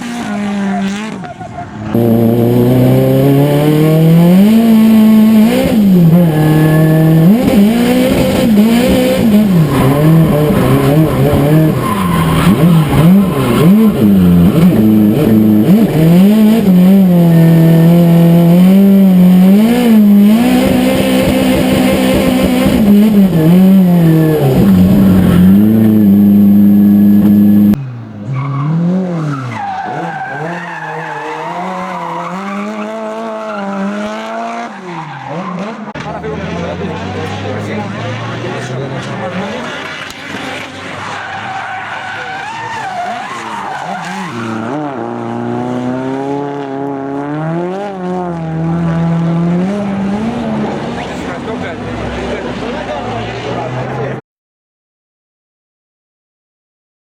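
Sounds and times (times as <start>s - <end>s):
turbo engine revving: 0.0s - 54.2s
tyres skidding: 0.0s - 54.2s.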